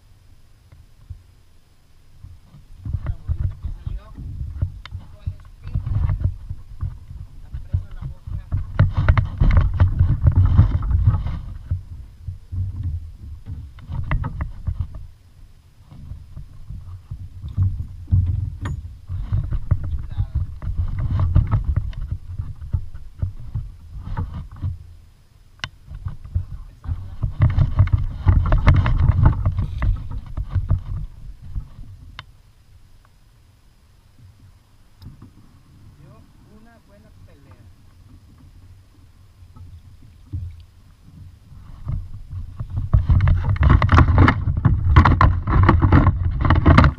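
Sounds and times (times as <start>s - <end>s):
wind noise: 0.7s - 32.9s, 34.0s - 46.9s.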